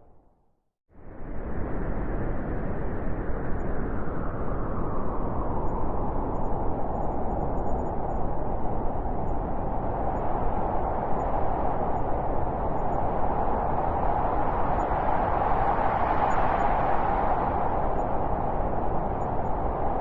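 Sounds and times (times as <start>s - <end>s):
howling wind: 0.9s - 20.0s.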